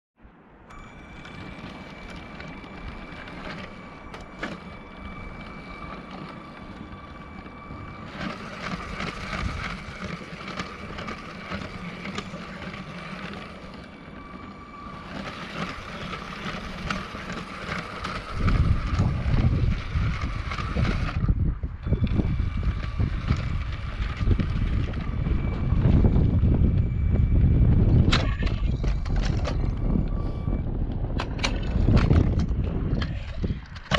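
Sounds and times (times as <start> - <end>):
electric toy train motor whining: 0.7 - 33.9
wind buffeting microphone: 0.8 - 33.9.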